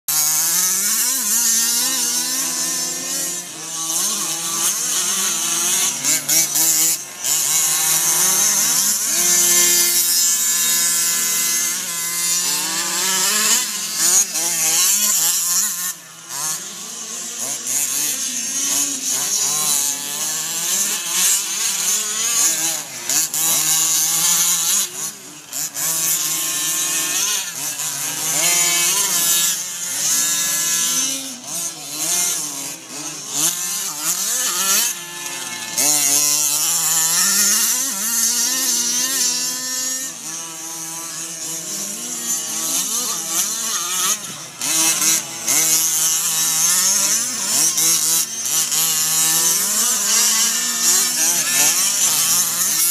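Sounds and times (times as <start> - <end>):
rc car engines revving: 0.0 - 52.9.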